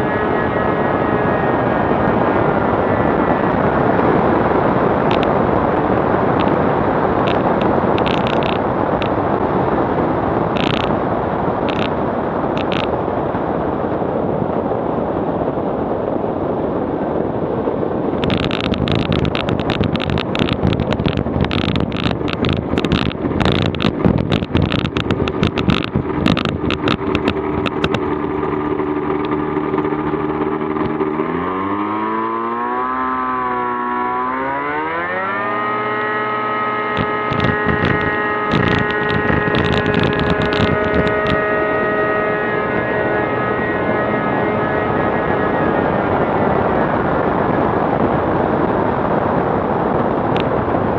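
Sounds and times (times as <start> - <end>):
aircraft engine and propeller: 0.0 - 50.9
rushing wind: 0.0 - 50.9.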